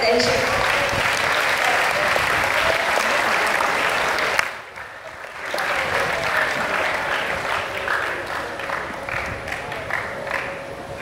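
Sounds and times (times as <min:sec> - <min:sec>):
audience applause: 0:00.0 - 0:11.0
crowd noise: 0:00.0 - 0:11.0.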